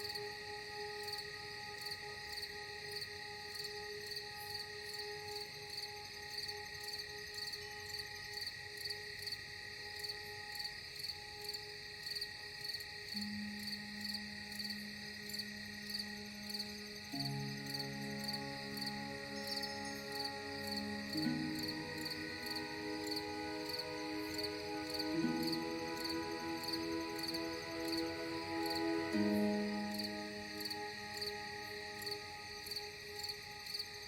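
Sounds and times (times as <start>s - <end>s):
ambient music: 0.0s - 34.0s
crickets chirping: 0.0s - 34.0s.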